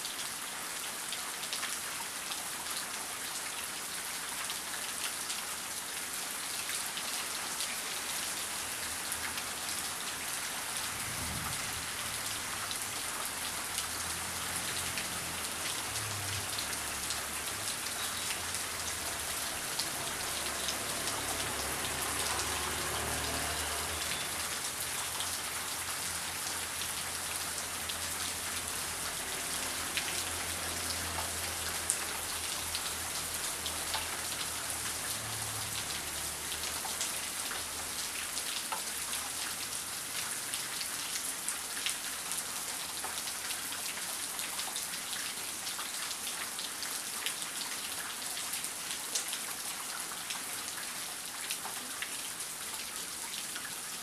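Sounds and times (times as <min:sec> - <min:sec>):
heavy rain: 0:00.0 - 0:54.0
raindrops ticking on surface: 0:00.2 - 0:54.0.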